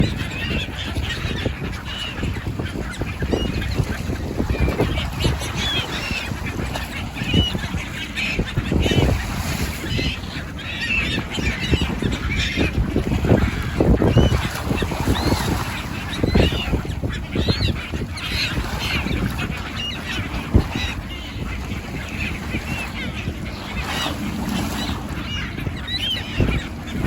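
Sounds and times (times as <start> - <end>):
flock of birds calling: 0.0 - 27.0.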